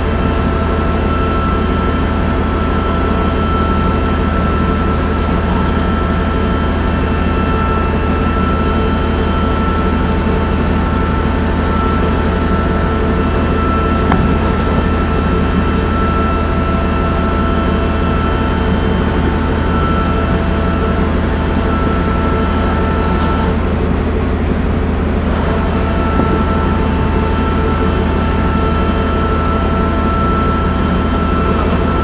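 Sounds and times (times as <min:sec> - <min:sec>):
high whining tones: 0:00.0 - 0:32.0
low machinery hum: 0:00.0 - 0:32.0.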